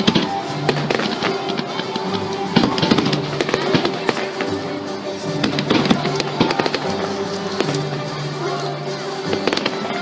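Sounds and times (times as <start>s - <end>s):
fireworks bangs: 0.0s - 8.2s, 9.3s - 10.0s
music with sustained notes: 0.0s - 10.0s.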